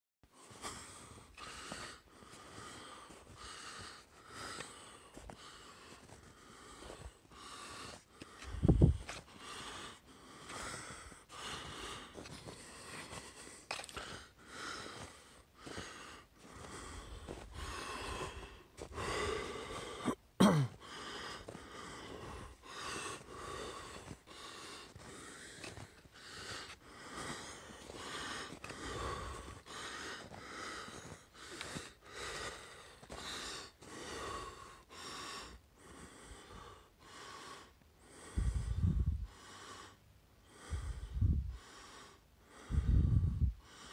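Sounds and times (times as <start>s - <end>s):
person breathing hard: 0.3s - 43.9s.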